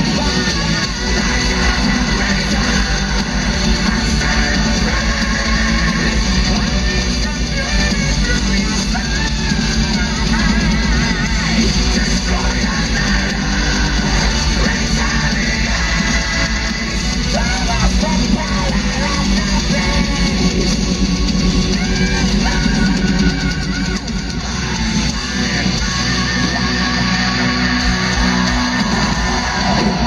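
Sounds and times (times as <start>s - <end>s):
heavy metal band playing: 0.0s - 30.0s.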